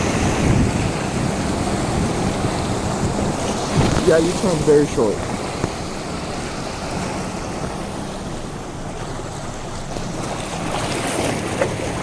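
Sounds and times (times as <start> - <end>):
low engine hum: 0.0 - 12.0
water rushing around car: 0.0 - 12.0.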